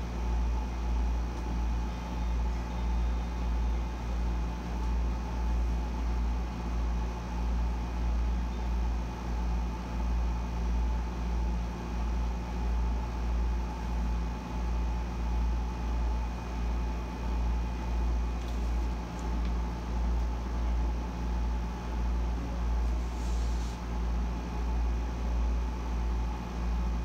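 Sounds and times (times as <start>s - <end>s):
air conditioner droning hum: 0.0s - 27.0s
faint steady whine: 0.0s - 27.0s.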